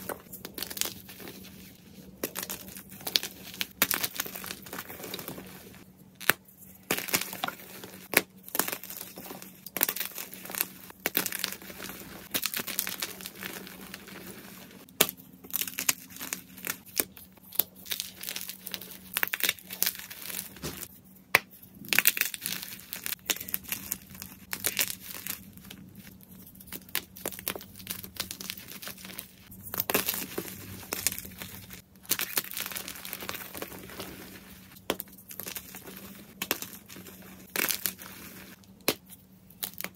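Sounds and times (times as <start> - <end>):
hands crushing chalk blocks: 0.0 - 39.9.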